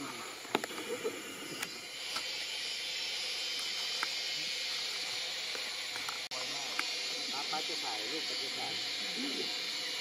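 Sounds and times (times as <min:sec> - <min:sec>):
steady high-pitched hiss: 0:00.0 - 0:10.0.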